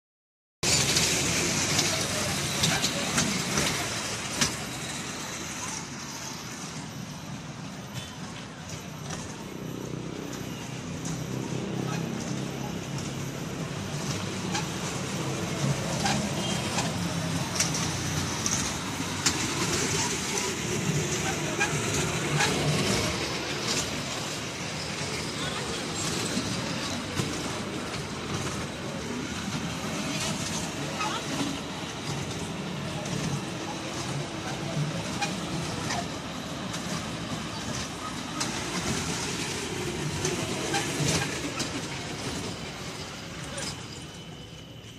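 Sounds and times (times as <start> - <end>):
ride train low hum: 0.6 - 44.9.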